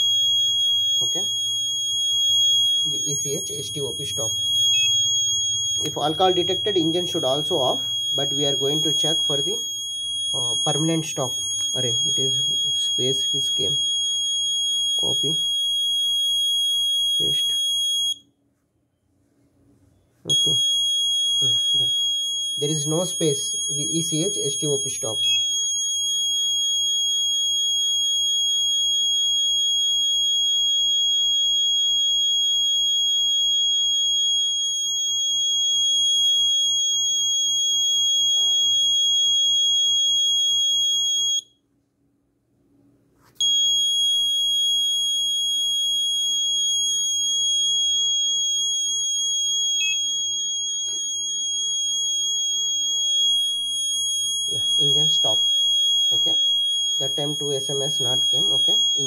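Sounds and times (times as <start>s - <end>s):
piezo buzzer high-pitched tone: 0.0s - 18.3s, 20.2s - 41.6s, 43.4s - 59.0s.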